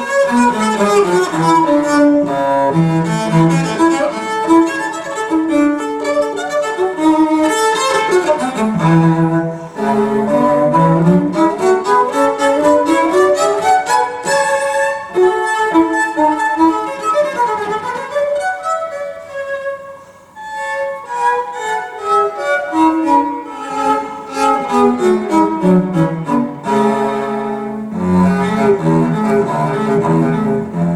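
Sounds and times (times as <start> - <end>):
cello music through loudspeakers: 0.0 - 30.9.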